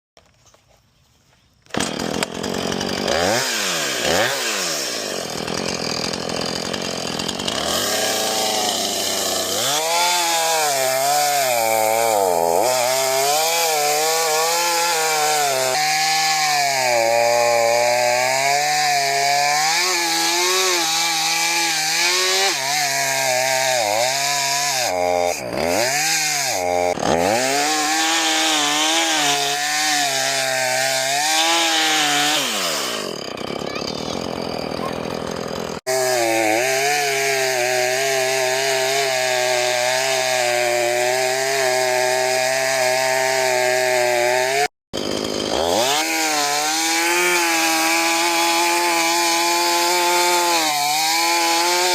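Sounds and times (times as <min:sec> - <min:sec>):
chainsaw cutting into log: 0:01.6 - 0:51.9
chainsaw revving: 0:01.7 - 0:51.9.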